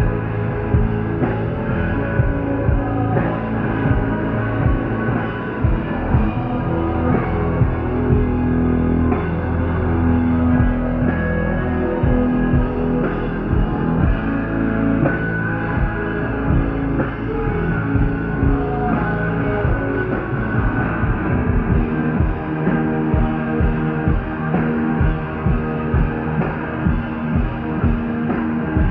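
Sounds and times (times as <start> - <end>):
punk rock band playing live: 0.0 - 28.9.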